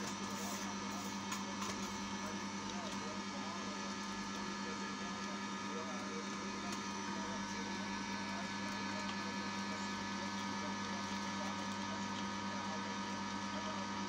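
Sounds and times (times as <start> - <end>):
oil press humming: 0.0 - 14.0.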